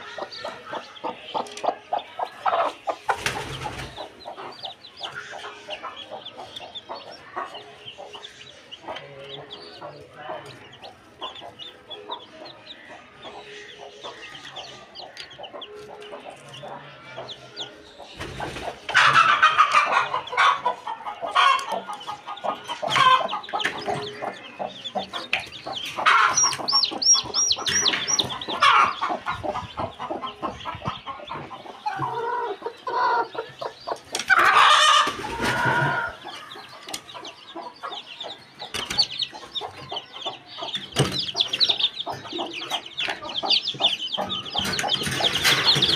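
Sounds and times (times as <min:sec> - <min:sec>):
chicks peeping: 0:00.0 - 0:45.9
hen clucking: 0:00.0 - 0:45.9.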